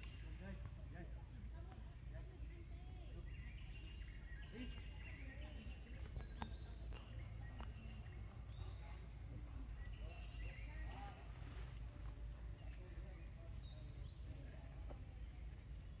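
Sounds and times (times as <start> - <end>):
high insect drone: 0.0 - 16.0
bird chirps: 2.5 - 16.0.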